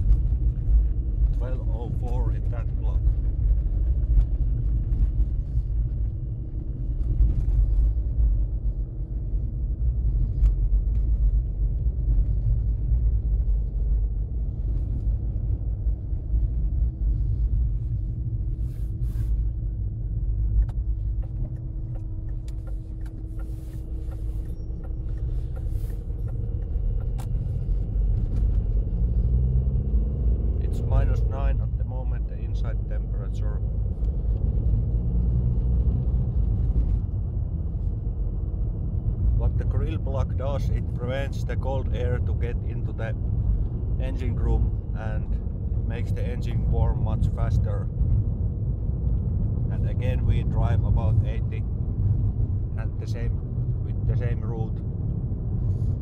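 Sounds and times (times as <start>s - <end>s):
car engine rumble: 0.0s - 56.0s
faint steady hum: 0.0s - 56.0s.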